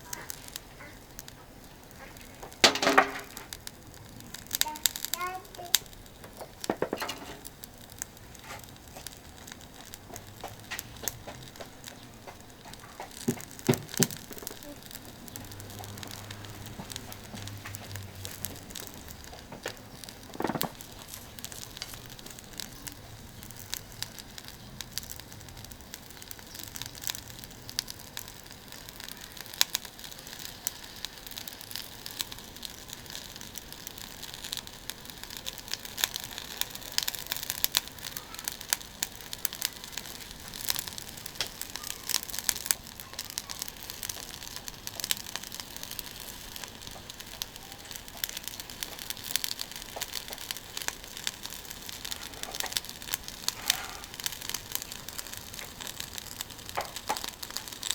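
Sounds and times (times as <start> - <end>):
grill crackling and sizzling: 0.0 - 57.9.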